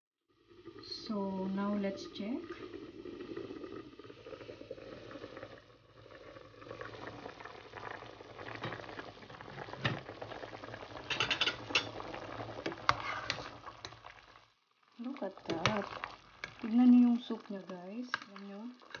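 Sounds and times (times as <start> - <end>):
soup boiling and bubbling: 0.3 - 19.0.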